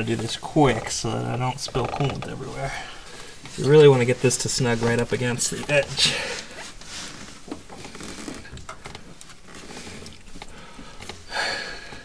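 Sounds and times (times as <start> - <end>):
rubber hose rubbing and knocking: 0.0 - 12.0.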